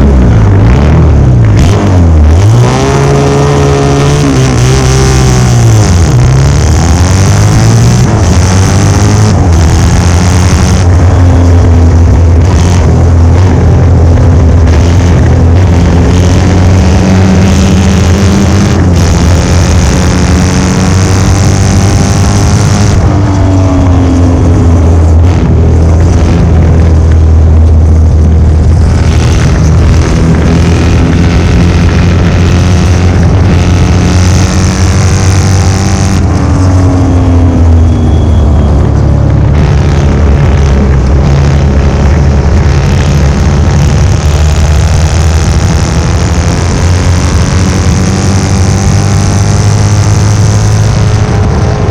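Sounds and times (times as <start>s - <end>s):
racing motorcycle engine at high revs: 0.0s - 51.9s.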